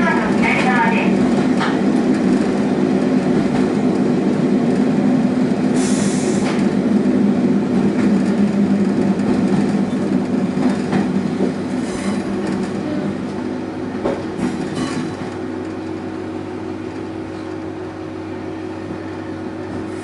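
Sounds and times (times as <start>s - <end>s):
railcar engine and rail drone: 0.0s - 20.0s.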